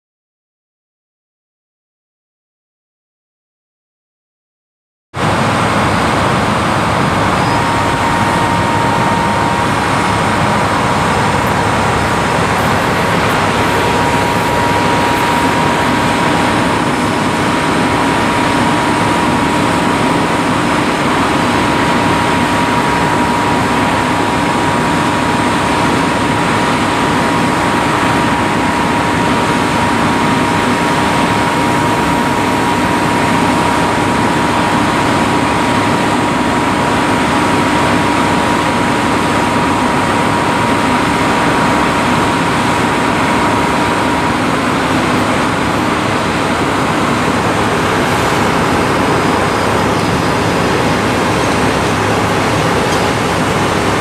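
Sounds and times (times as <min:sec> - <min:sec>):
excavator diesel engine running: 0:05.2 - 0:54.0
steady high whine: 0:05.2 - 0:54.0.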